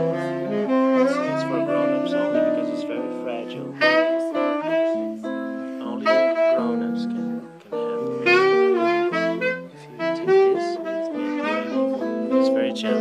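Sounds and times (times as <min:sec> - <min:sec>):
electric guitar accompaniment: 0:00.0 - 0:13.0
tenor saxophone playing bossa nova: 0:00.0 - 0:13.0.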